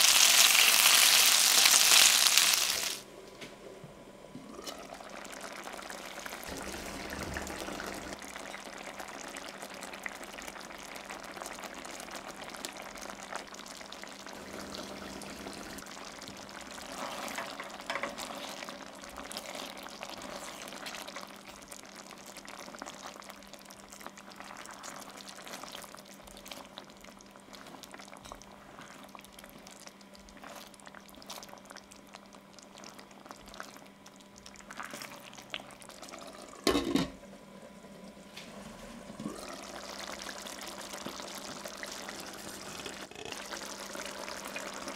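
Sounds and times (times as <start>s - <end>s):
sauce bubbling in a pot: 4.4s - 44.9s.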